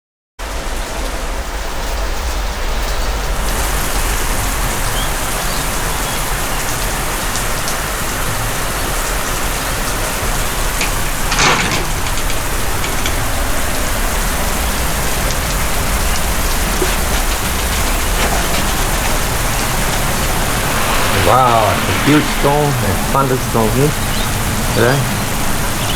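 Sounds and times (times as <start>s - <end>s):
heavy rain pouring: 0.4s - 25.9s.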